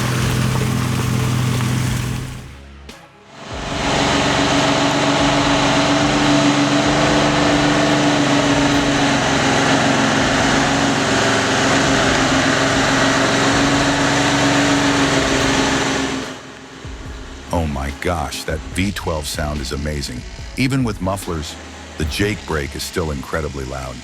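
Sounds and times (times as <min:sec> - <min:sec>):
truck engine brake: 0:00.0 - 0:02.7, 0:03.4 - 0:23.0.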